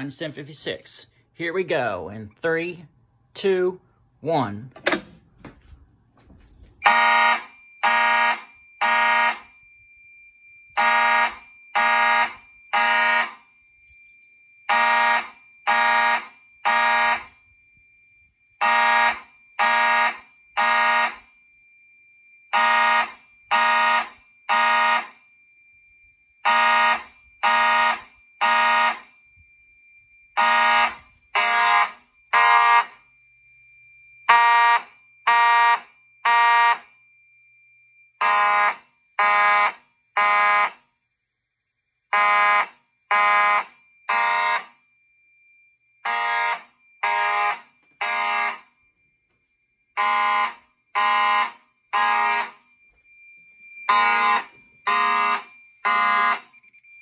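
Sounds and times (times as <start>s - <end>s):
fire alarm horn blasts: 6.1s - 57.0s
faint steady high tone: 6.2s - 23.5s, 24.1s - 57.0s.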